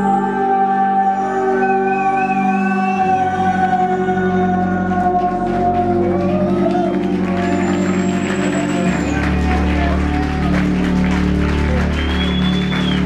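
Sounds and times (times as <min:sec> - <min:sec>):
electronic music through pa: 0:00.0 - 0:13.0.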